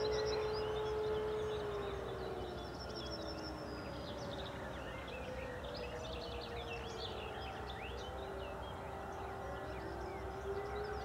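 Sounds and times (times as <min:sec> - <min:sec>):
birds chirping: 0:00.0 - 0:11.0
sirens wailing: 0:00.0 - 0:11.0.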